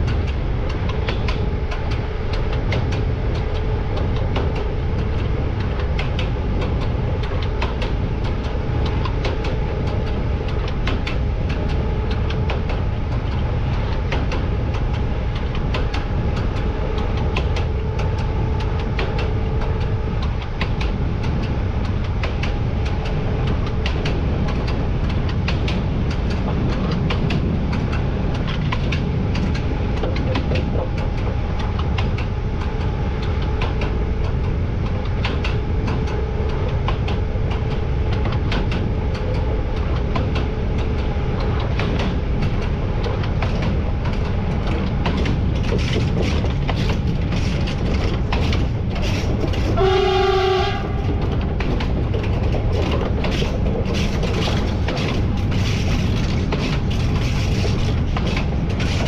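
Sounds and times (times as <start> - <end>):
wheels rumbling on rails: 0.0 - 59.0.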